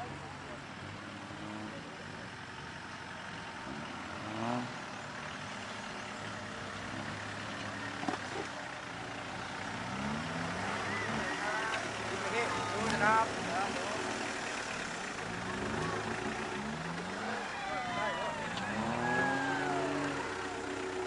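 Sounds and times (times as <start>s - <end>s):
truck engine revving: 0.8s - 21.0s.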